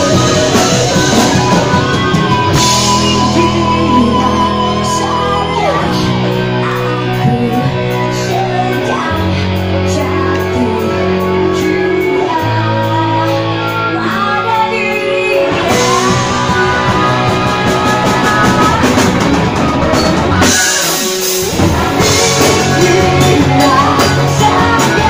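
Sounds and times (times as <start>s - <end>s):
bass guitar: 0.0s - 25.0s
drum kit: 0.0s - 25.0s
electric guitars: 0.0s - 25.0s
woman singing: 0.0s - 25.0s.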